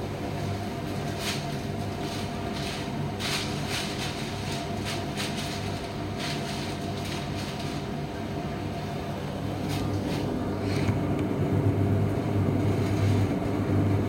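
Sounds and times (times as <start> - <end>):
tumble dryer running: 0.0 - 14.0.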